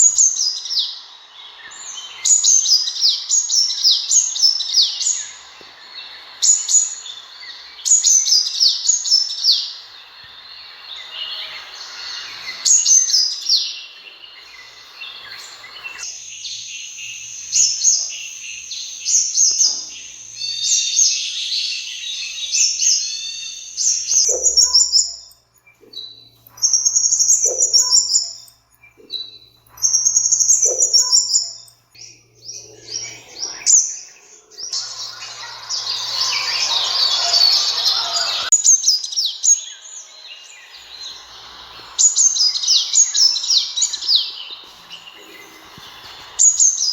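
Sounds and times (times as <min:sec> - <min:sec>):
bird chirping and trilling: 0:00.0 - 0:46.9.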